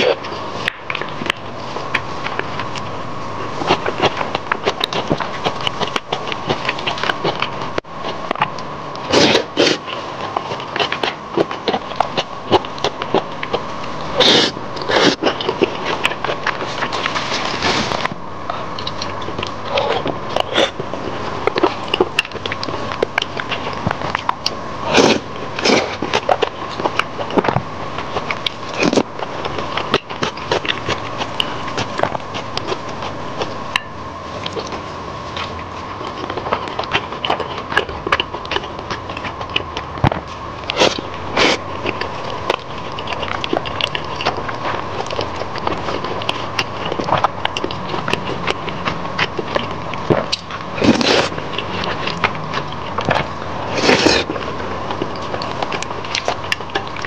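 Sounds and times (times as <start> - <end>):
close chewing and mouth sounds: 0.0 - 57.0.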